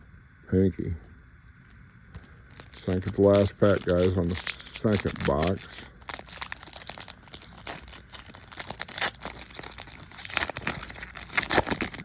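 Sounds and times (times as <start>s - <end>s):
card pack wrapper crinkling: 1.7s - 12.0s.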